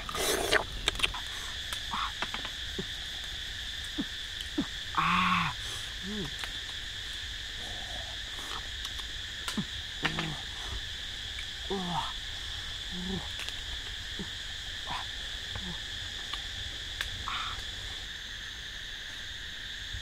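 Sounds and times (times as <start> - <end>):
forest insects chirring: 0.0 - 20.0.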